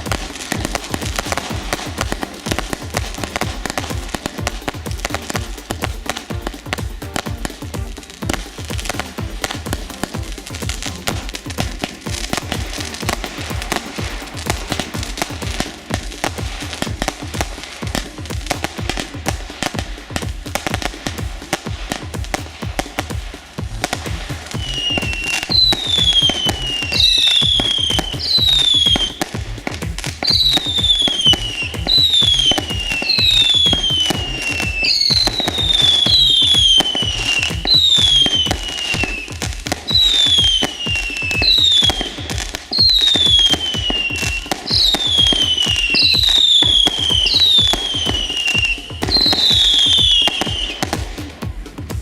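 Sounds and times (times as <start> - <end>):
whistling firework shots: 0.0 - 51.5
fireworks crackling and bangs: 0.0 - 52.0.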